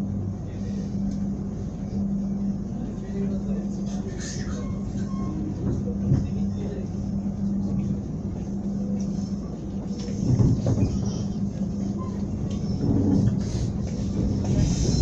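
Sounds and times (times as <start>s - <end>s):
low hum: 0.0s - 15.0s
train wheels rumbling on rails: 0.0s - 15.0s.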